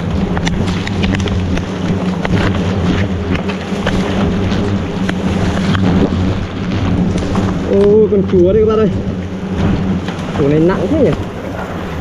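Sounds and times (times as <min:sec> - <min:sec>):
hornets buzzing: 0:00.0 - 0:12.0
papery comb crackling: 0:00.0 - 0:12.0.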